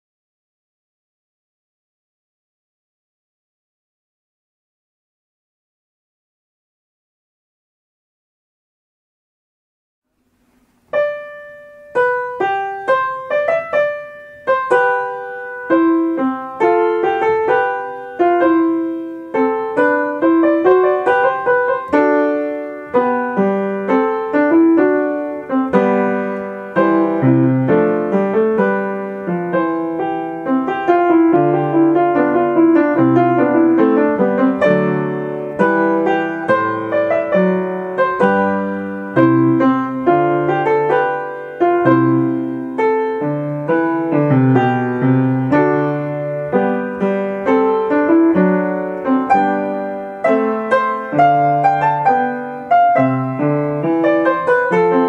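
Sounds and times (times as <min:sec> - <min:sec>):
slow solo piano piece: 0:10.5 - 0:55.0.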